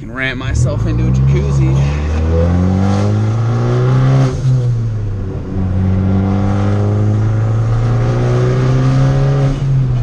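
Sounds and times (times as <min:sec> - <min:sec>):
turbocharged car engine under throttle: 0:00.3 - 0:10.0.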